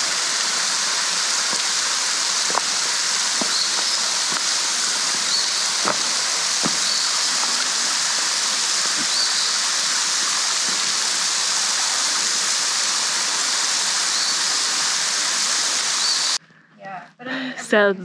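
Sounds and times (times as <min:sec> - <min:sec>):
waterfall rushing and splashing: 0:00.0 - 0:16.4.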